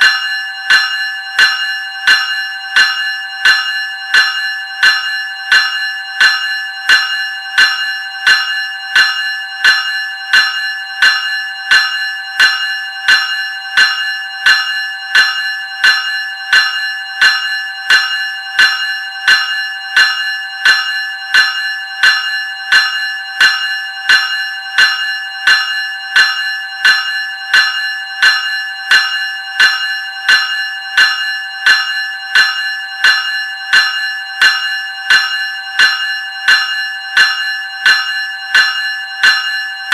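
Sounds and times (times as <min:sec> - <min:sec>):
electric bell ringing: 0:00.0 - 0:39.9.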